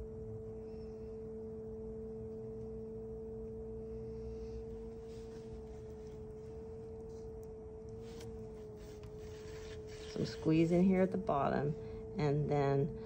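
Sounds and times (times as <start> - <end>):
pottery wheel motor whining: 0.0 - 13.0.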